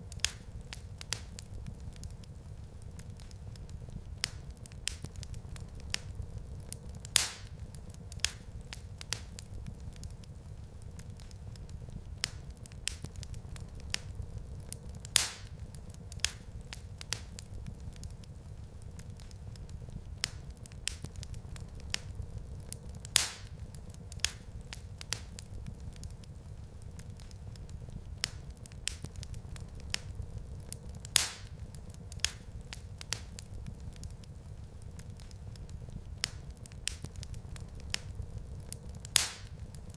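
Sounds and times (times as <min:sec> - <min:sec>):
wood fire crackling: 0:00.0 - 0:39.9
loud fire pops: 0:00.1 - 0:39.9.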